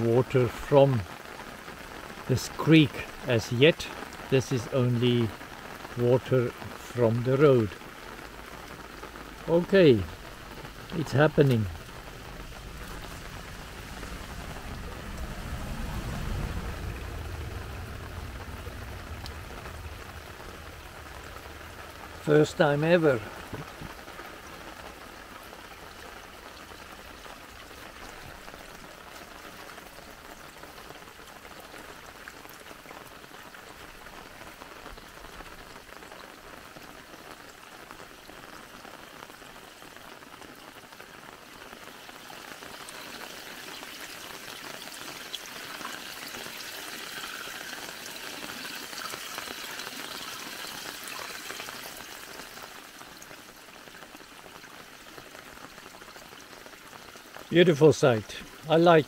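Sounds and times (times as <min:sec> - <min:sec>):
light rain pattering on water: 0:00.0 - 0:59.0
water spilling over a dam: 0:00.0 - 0:59.0.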